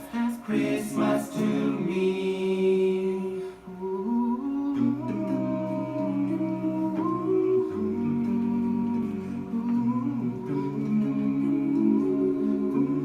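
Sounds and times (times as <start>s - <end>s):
a cappella group humming chords: 0.0s - 13.0s.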